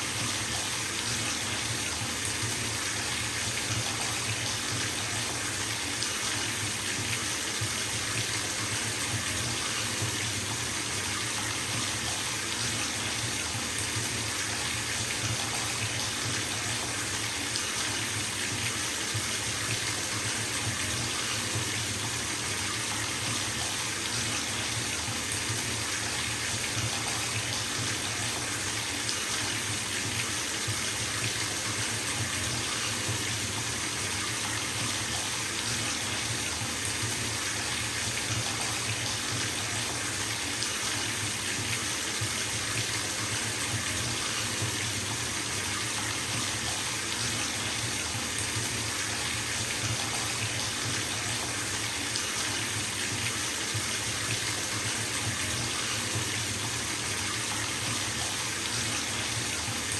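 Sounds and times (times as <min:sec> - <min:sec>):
water pouring into bathtub: 0:00.0 - 0:59.9.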